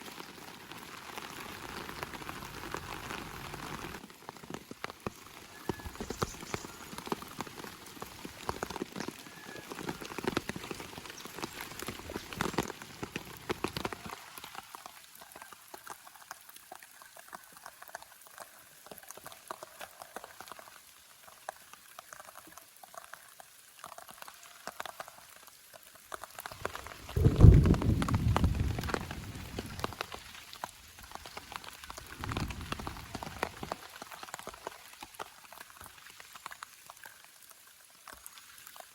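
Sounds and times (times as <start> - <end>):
rain drops ticking on surfaces: 0.0 - 38.9.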